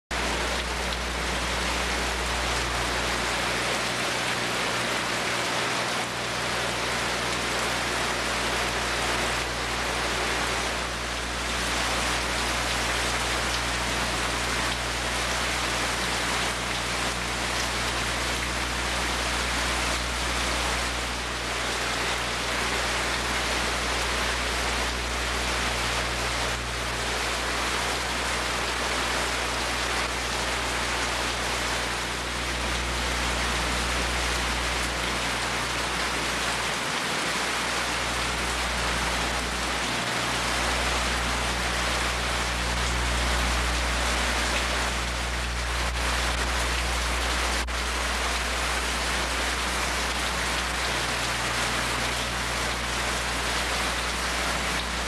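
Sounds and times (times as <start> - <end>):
rain falling: 0.1 - 55.0.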